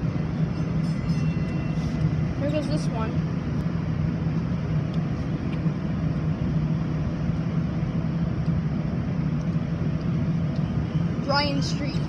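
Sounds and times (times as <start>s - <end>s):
city street traffic: 0.0s - 12.0s
low hum: 0.0s - 12.0s.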